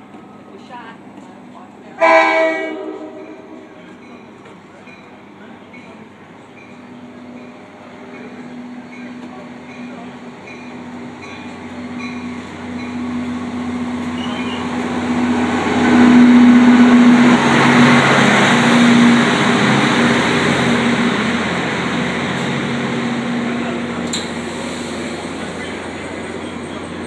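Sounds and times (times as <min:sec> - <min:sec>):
diesel locomotive engine drone: 0:00.0 - 0:27.0
train rail rumble: 0:00.0 - 0:27.0.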